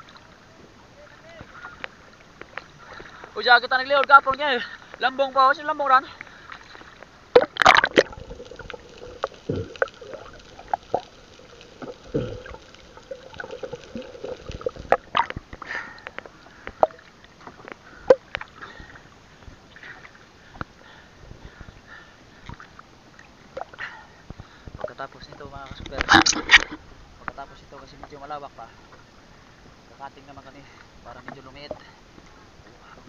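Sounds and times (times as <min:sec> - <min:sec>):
faint steady hum: 0:00.0 - 0:33.0
water sloshing around boat: 0:00.0 - 0:33.0.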